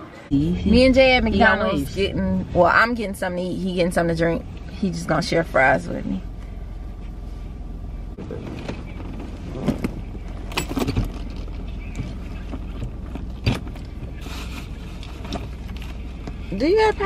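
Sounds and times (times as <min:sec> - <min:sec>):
car idling: 0:00.0 - 0:17.0.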